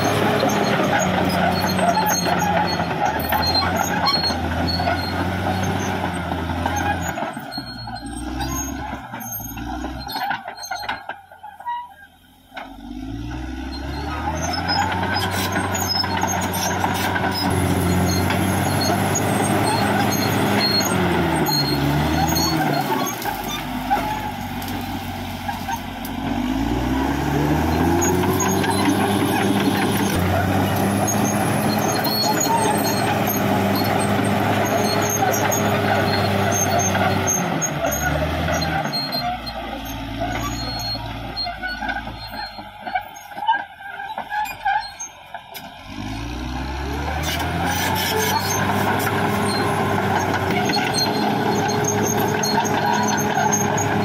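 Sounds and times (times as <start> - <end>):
bulldozer diesel engine revving: 0.0 - 54.0.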